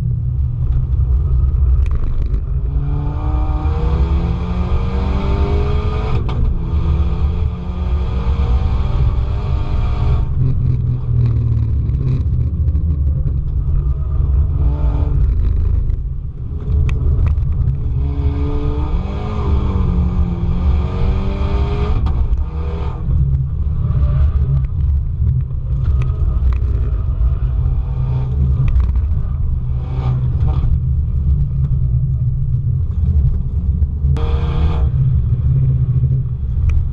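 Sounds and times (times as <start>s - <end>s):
race car engine: 0.0s - 36.9s
wind and road noise: 0.0s - 36.9s.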